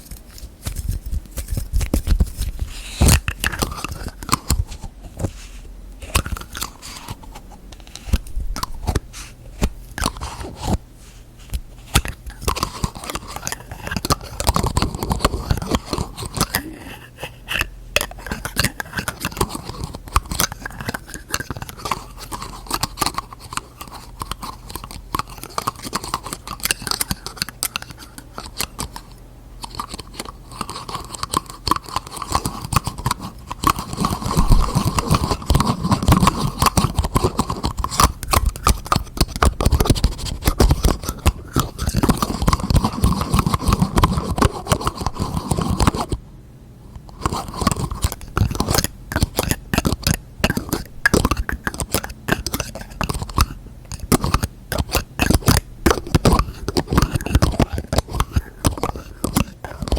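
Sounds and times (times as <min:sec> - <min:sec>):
scraping and rubbing: 0:00.0 - 0:46.2, 0:47.1 - 0:59.9.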